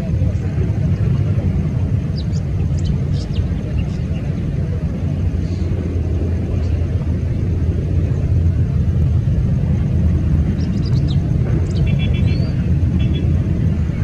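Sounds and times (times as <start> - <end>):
jet engines rumbling at takeoff: 0.0 - 14.0.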